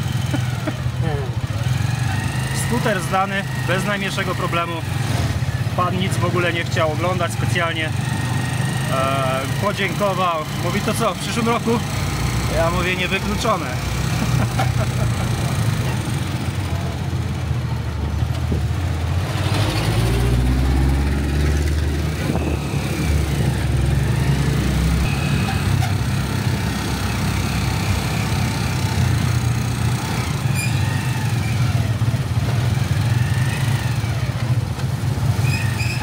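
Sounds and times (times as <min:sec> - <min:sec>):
small motorcycle engine running: 0:00.0 - 0:17.6, 0:21.1 - 0:36.0.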